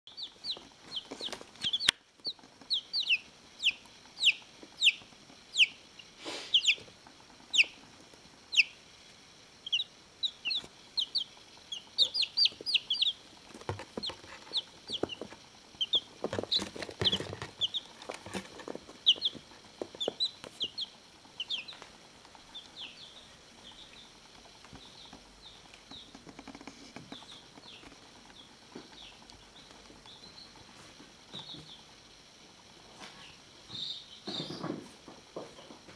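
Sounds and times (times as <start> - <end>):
baby chicks peeping: 0.1 - 34.8.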